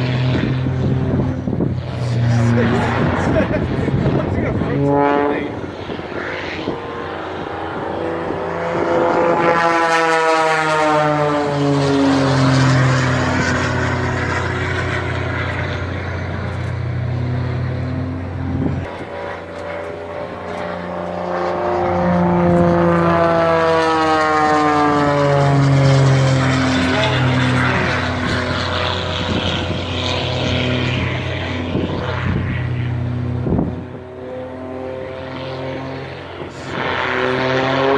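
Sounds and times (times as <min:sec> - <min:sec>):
airplane engine passing by: 0:00.0 - 0:37.9.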